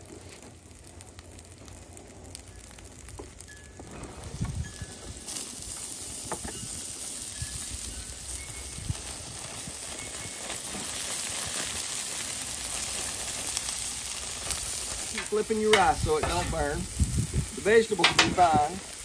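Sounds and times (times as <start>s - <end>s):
vegetables sizzling on griddle: 0.0s - 19.0s.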